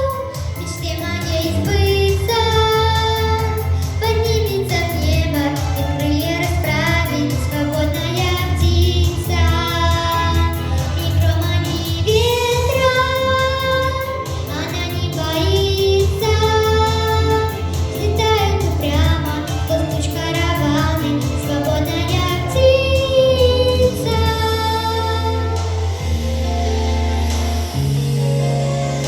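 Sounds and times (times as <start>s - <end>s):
woman singing: 0.0s - 25.9s
instrumental backing track: 0.0s - 29.0s.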